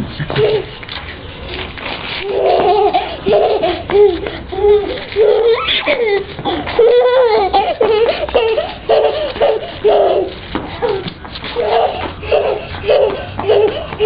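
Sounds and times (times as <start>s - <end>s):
child laughing: 0.1s - 14.0s.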